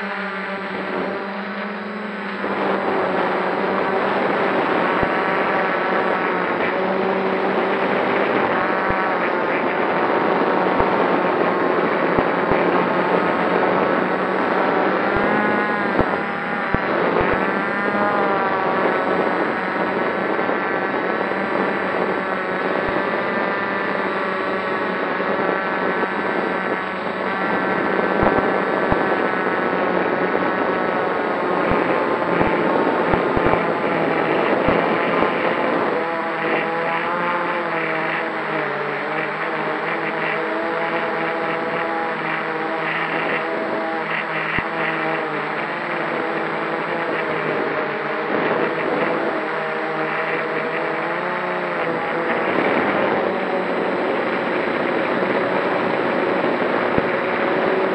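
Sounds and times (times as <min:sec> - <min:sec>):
drone motors whining: 0:00.0 - 0:57.9.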